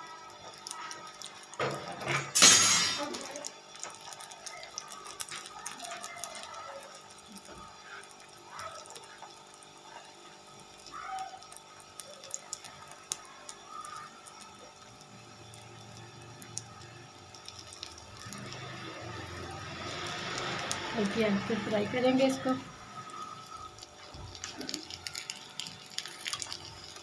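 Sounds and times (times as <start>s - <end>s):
flatbread sizzling in oil: 0.0s - 27.0s
oil crackling: 0.0s - 27.0s.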